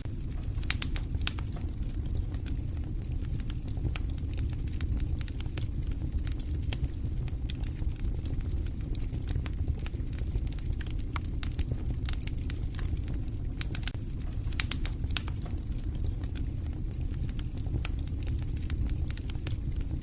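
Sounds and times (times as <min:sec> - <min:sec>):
campfire crackling: 0:00.0 - 0:20.0
steady low rumble: 0:00.0 - 0:20.0.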